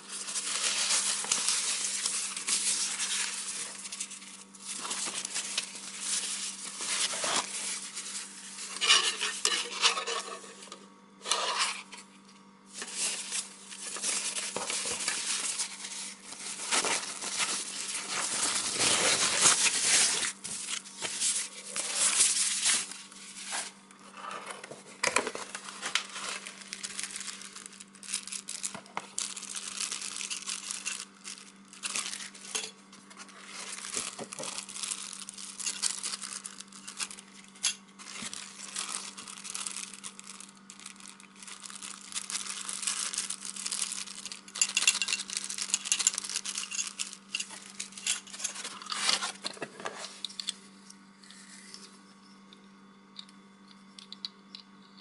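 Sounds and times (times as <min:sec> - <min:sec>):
plastic bag crinkling: 0:00.0 - 0:12.0, 0:12.6 - 0:24.0, 0:24.9 - 0:50.4.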